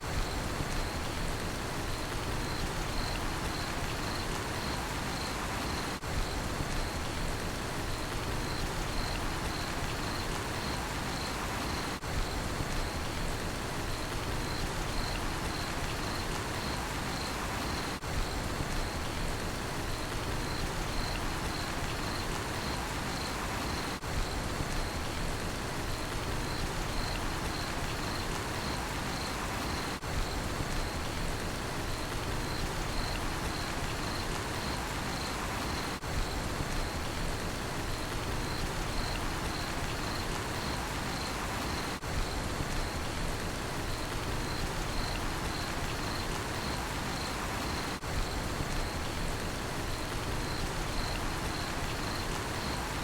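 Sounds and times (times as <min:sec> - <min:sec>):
steady rain hissing: 0:00.0 - 0:53.0
cricket chirping: 0:01.9 - 0:07.2, 0:07.9 - 0:13.2, 0:13.9 - 0:19.2, 0:19.8 - 0:25.2, 0:25.9 - 0:31.2, 0:31.8 - 0:53.0.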